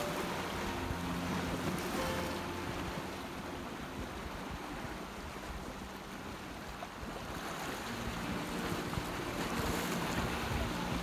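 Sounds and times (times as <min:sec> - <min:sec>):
waves washing on rocky shore: 0:00.0 - 0:11.0
wind across microphone: 0:00.0 - 0:11.0.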